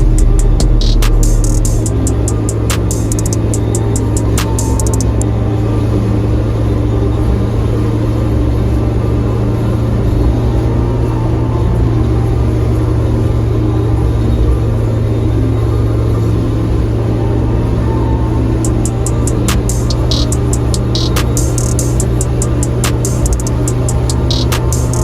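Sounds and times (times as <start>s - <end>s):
car engine drone: 0.0s - 25.0s
road rumble: 0.0s - 25.0s.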